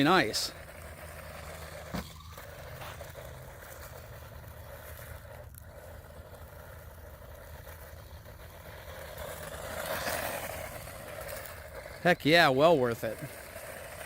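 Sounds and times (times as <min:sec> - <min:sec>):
toy car motor whining: 0:00.0 - 0:14.0
tyres running over ground: 0:00.0 - 0:14.0.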